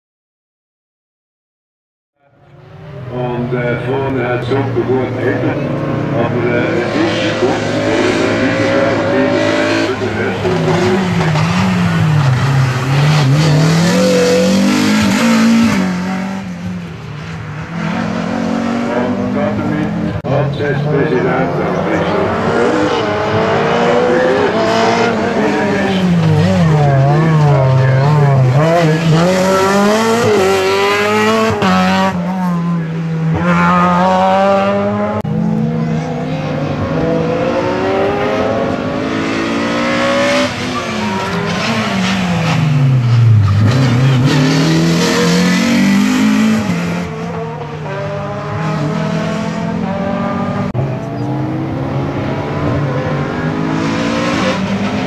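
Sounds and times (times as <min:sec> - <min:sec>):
racing car engines revving: 0:02.4 - 0:55.0.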